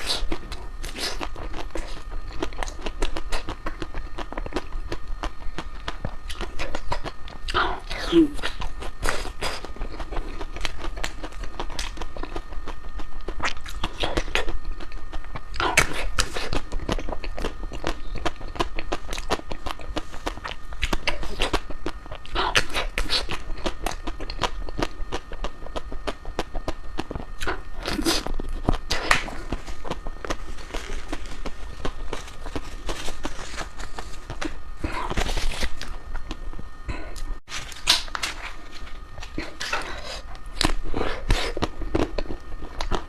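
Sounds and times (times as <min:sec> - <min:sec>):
crispy ice cream crunching: 0:00.0 - 0:43.0.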